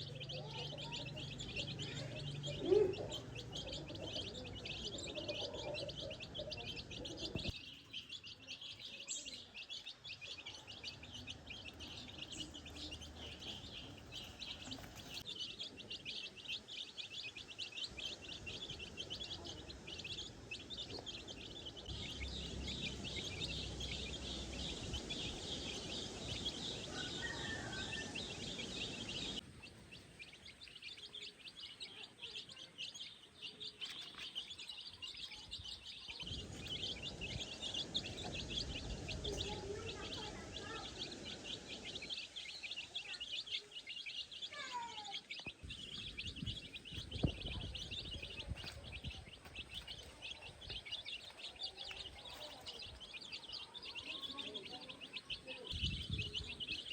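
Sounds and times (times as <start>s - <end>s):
rapid high chirping chorus: 0.0s - 56.9s.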